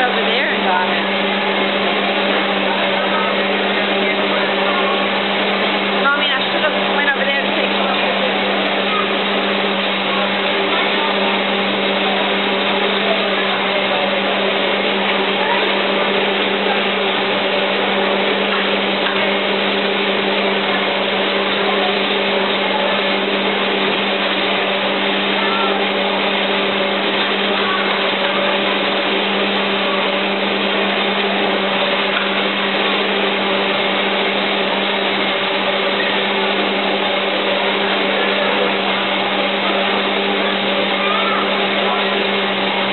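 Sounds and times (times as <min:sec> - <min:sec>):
electric motor humming: 0:00.0 - 0:42.9.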